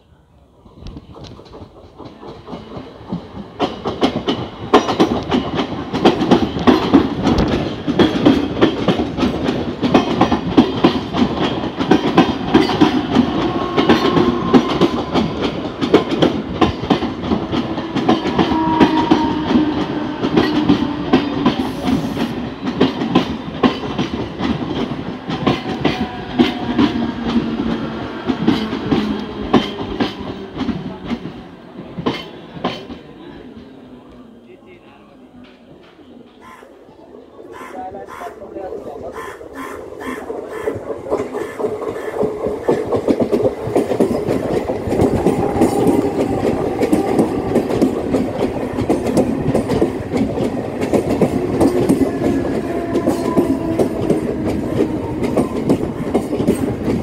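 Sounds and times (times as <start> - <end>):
wheels clacking over rail joints: 0.9 - 33.2, 40.0 - 57.0.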